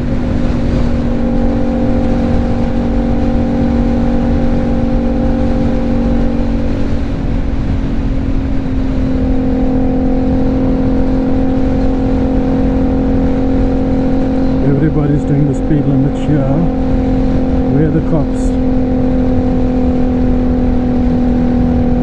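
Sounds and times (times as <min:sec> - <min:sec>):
motorcycle engine drone: 0:00.0 - 0:22.0
wind buffeting microphone: 0:00.0 - 0:22.0.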